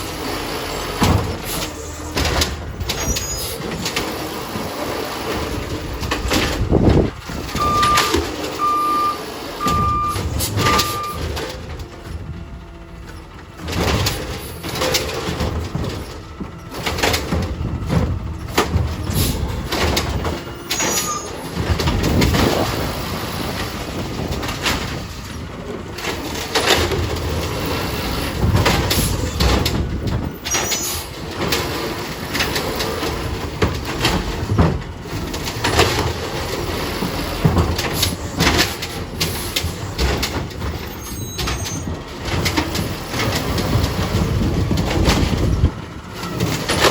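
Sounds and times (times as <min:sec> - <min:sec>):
clanks knocks and rattles: 0:00.0 - 0:46.9
garbage truck engine running: 0:00.0 - 0:46.9.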